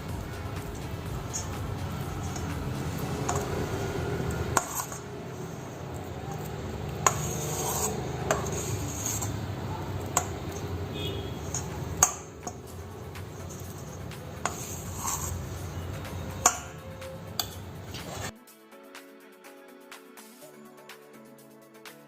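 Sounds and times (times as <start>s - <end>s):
utensils scraping dough or pan: 0.0s - 18.3s.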